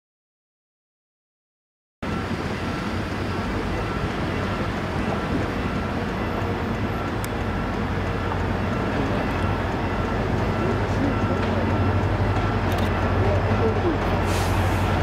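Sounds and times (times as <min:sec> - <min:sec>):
diesel locomotive drone: 0:02.0 - 0:15.0.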